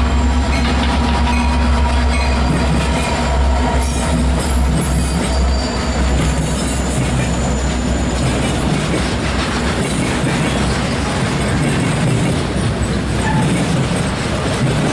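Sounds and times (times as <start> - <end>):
diesel locomotives rumbling: 0.0 - 14.9
freight cars rolling on rails: 0.0 - 14.9.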